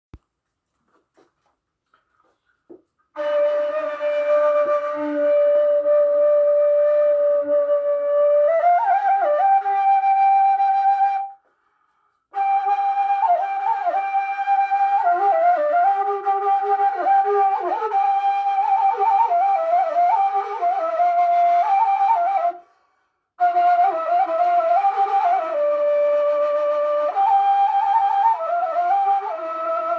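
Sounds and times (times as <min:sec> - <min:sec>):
flute playing ornamented melody: 0:03.2 - 0:11.4, 0:12.4 - 0:22.6, 0:23.4 - 0:29.9
softer lower flute line: 0:03.2 - 0:11.6, 0:12.3 - 0:22.8, 0:23.4 - 0:29.9.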